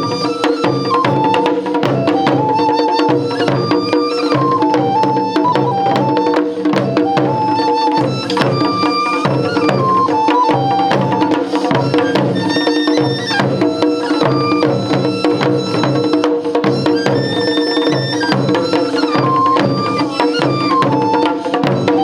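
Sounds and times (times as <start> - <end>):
drum ensemble playing: 0.0 - 22.0
held tones and high melody: 0.0 - 22.0.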